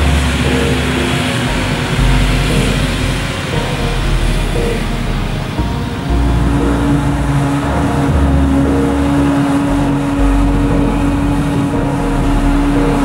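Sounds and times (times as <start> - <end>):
forage harvester drone: 0.0 - 13.0.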